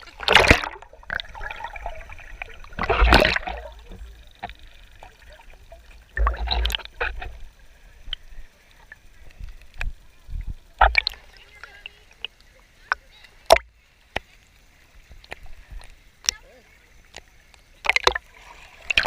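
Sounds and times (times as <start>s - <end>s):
sea water splashing: 0.0s - 19.0s
water sloshing: 0.0s - 19.0s.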